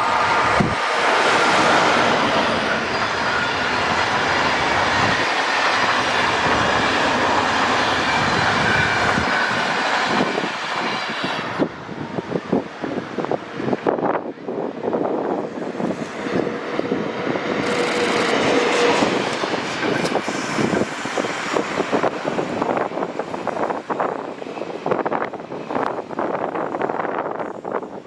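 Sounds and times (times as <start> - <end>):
train wheels rushing on rail: 0.0 - 28.0.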